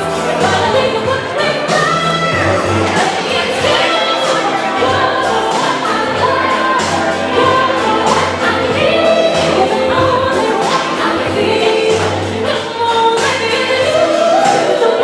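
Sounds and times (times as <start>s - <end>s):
choir singing with accompaniment: 0.0s - 15.0s.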